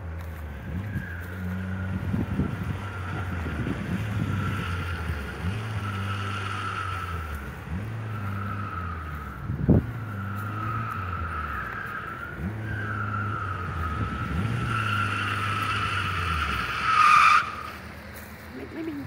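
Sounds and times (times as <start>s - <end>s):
tyres squealing: 0.8s - 19.0s.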